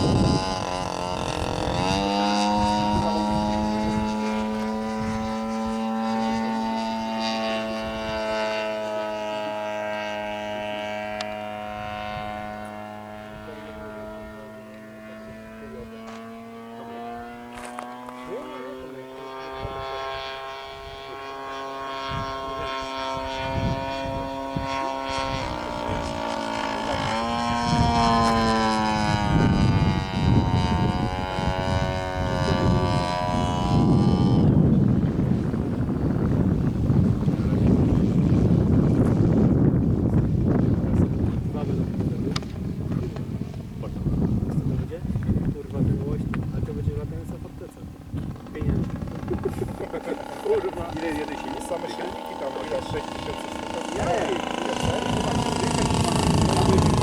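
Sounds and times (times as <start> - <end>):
model airplane engine whining: 0.0 - 57.0.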